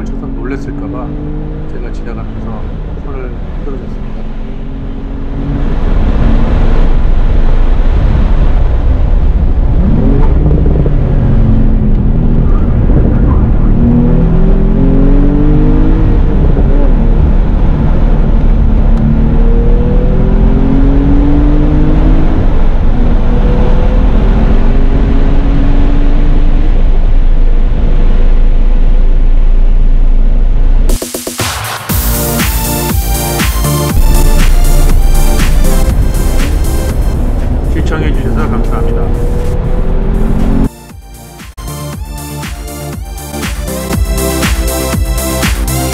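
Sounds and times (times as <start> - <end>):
sports car engine accelerating: 0.0 - 45.9
tyre and road noise: 0.0 - 45.9.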